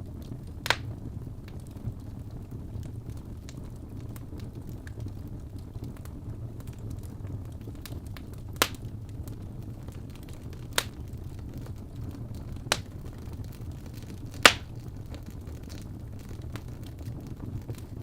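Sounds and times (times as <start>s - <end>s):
wood fire popping: 0.0s - 18.0s.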